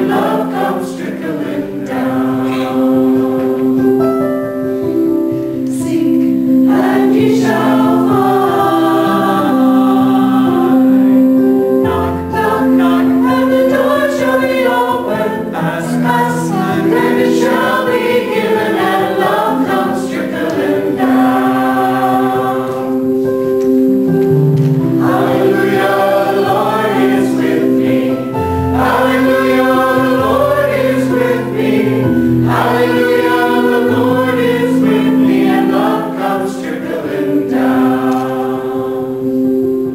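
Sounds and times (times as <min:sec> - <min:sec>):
choir singing a hymn: 0:00.0 - 0:39.9
sustained instrumental chords: 0:00.0 - 0:39.9.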